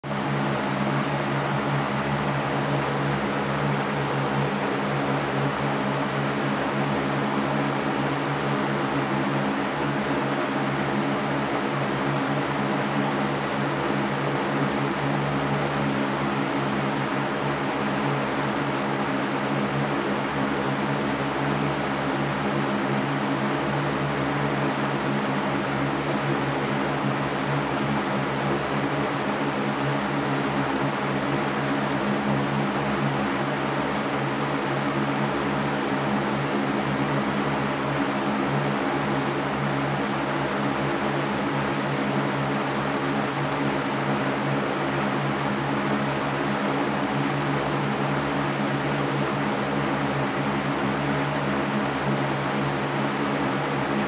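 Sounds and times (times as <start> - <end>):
low steady fan hum: 0.0 - 54.0.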